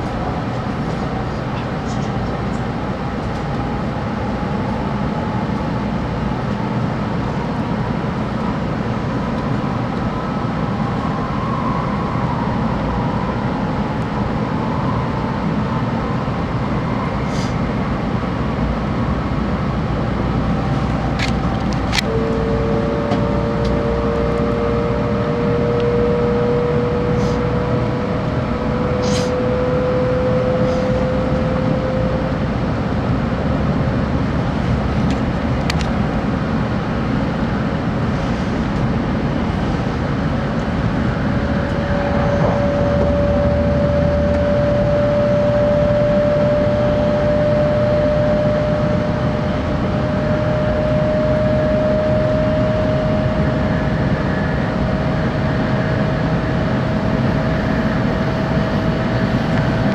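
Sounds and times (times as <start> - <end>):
rising whine: 0.0 - 59.9
train rumble and rush: 0.0 - 59.9.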